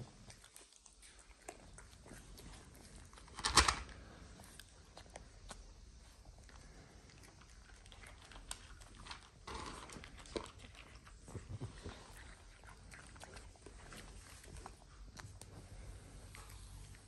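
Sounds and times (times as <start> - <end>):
dog crunching kibble: 0.0 - 15.6.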